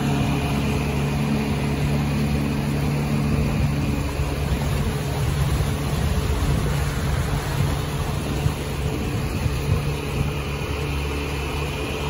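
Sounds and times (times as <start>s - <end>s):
outboard motor running: 0.0s - 12.0s
rush of wind and water: 0.0s - 12.0s.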